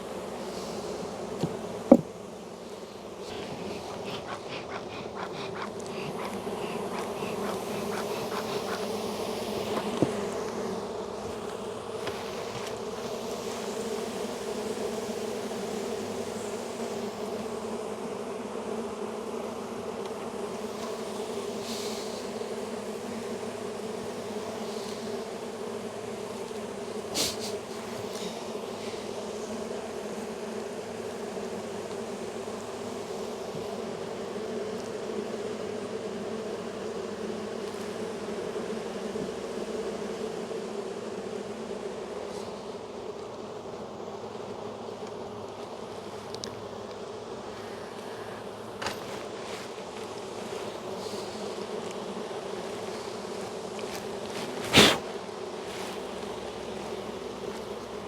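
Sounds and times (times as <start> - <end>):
honey bees buzzing: 0.0 - 58.0.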